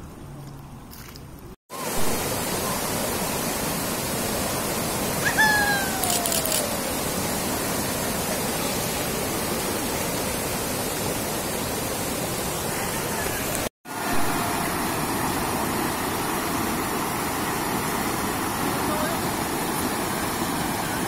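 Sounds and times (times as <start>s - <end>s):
floodwater rushing over road: 1.8s - 21.0s.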